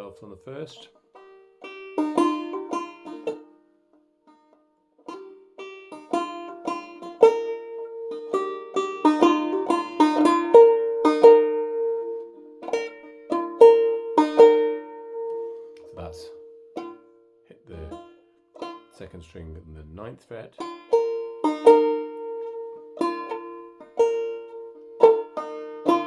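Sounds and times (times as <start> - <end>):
banjo plucked note by note: 0.0 - 3.6, 5.0 - 26.0.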